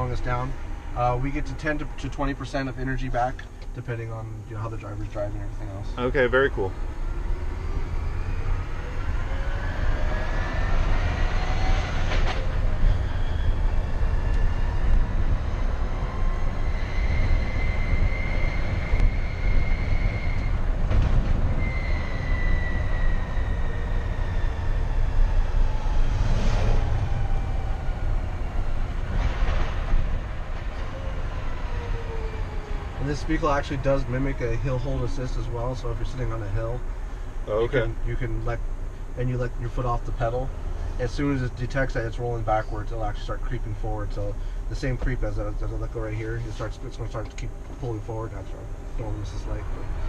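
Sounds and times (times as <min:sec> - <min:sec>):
low road rumble: 0:00.0 - 0:50.0.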